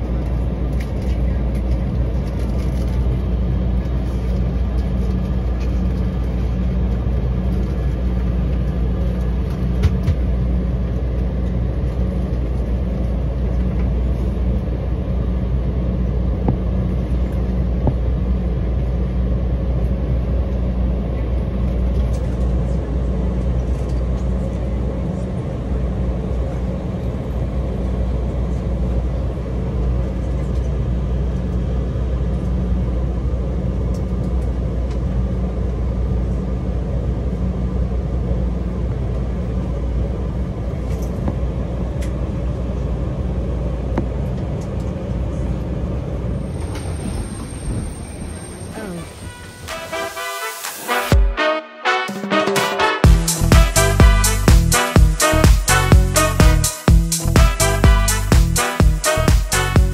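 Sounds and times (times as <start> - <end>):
jet cabin low rumble: 0.0 - 59.9.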